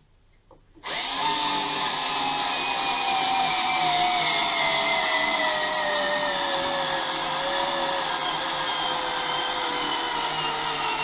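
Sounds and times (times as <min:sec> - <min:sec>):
electric screwdriver motor whine: 0:00.8 - 0:11.0.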